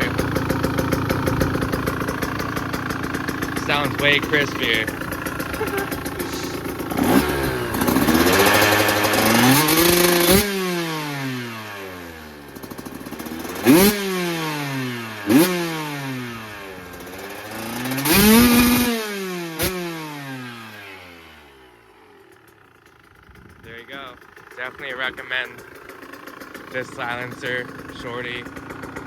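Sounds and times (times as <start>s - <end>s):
two-stroke motorcycle engine revving: 0.0s - 29.0s.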